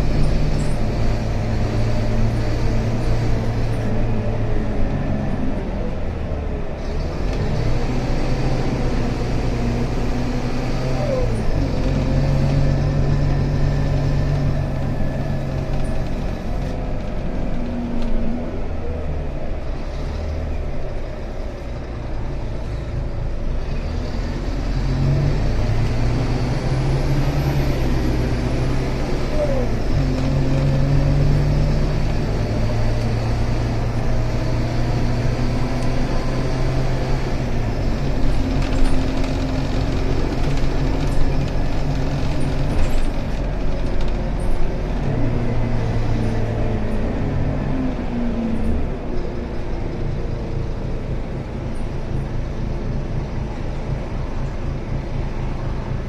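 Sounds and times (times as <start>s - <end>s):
bus engine changing gear: 0.0s - 56.0s
road noise: 0.0s - 56.0s.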